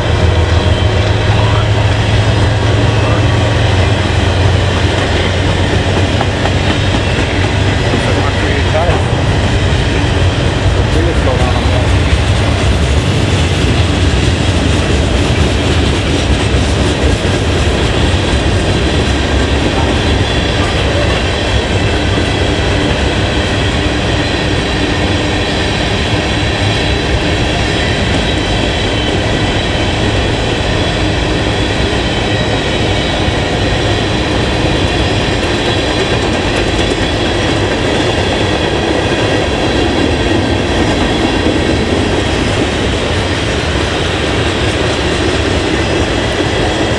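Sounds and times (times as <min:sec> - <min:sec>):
train rumbling past: 0:00.0 - 0:46.9
wheels clacking over rail joints: 0:00.0 - 0:46.9.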